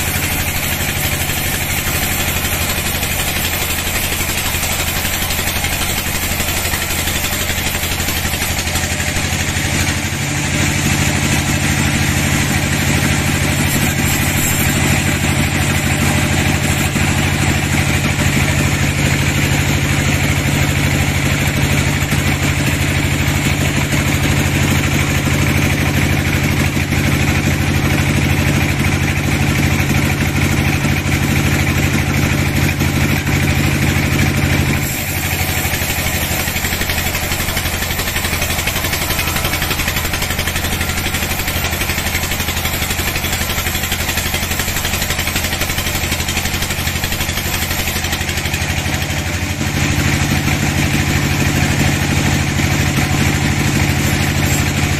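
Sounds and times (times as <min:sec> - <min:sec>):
band saw running: 0:00.0 - 0:54.9.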